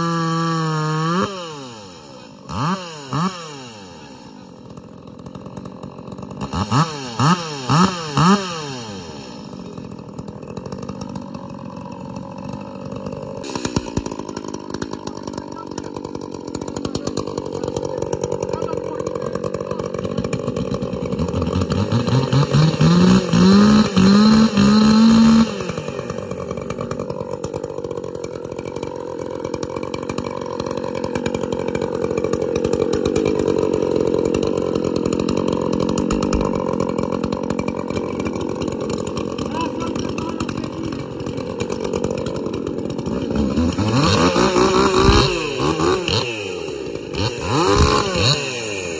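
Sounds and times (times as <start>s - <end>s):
chainsaw revving and idling: 0.0s - 48.9s.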